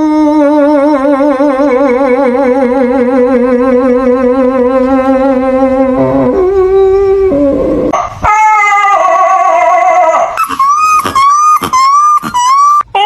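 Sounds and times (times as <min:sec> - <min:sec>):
dog howling: 0:00.0 - 0:13.0.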